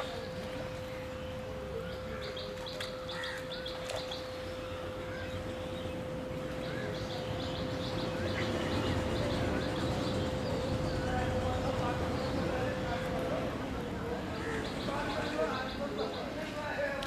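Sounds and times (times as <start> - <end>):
songbirds chirping: 0.0 - 17.0
steady hum: 0.0 - 17.0.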